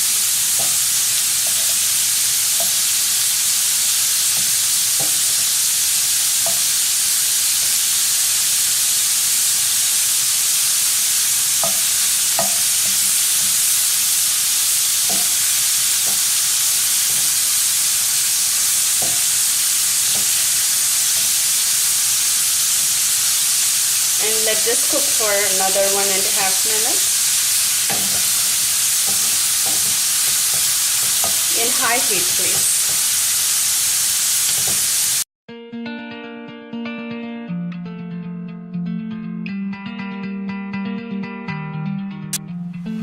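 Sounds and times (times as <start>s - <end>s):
shrimp sizzling in a pan: 0.0s - 35.3s.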